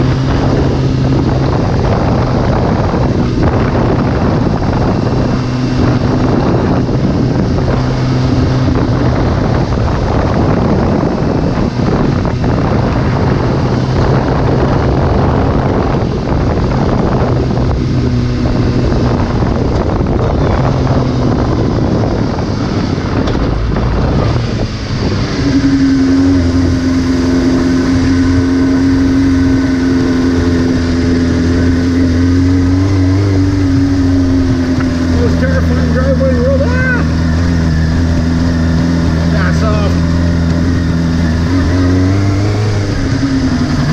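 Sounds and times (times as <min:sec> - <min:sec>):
motorcycle engine: 0:00.0 - 0:43.9
wind noise on microphone: 0:00.0 - 0:43.9.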